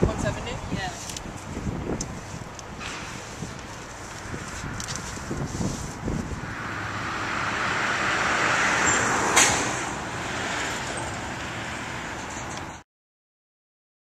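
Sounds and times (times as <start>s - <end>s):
road vehicle passing by: 1.5s - 12.8s.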